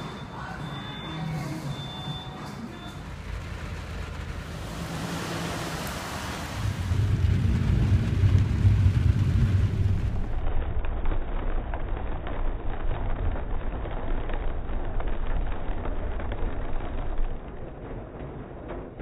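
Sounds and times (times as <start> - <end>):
low thunder rumble: 0.0 - 19.0
steady rain: 0.0 - 19.0.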